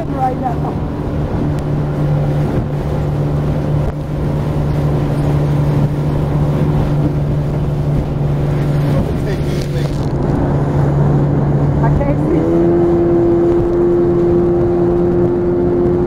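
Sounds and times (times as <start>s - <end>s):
rushing water: 0.0s - 16.0s
speedboat engine droning: 0.0s - 16.0s
wind noise: 0.0s - 16.0s.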